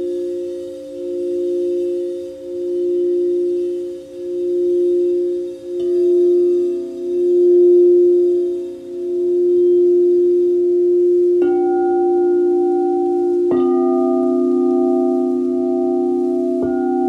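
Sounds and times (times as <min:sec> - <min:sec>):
crystal singing bowls ringing: 0:00.0 - 0:17.0
singing bowl struck: 0:00.0 - 0:17.0.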